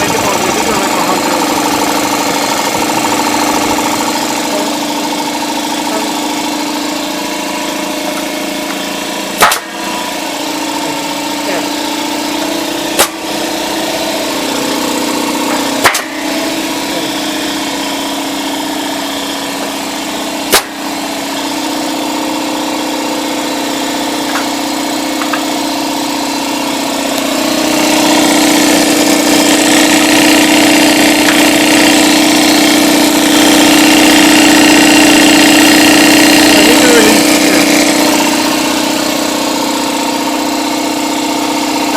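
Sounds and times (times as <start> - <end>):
air compressor humming: 0.0 - 41.9.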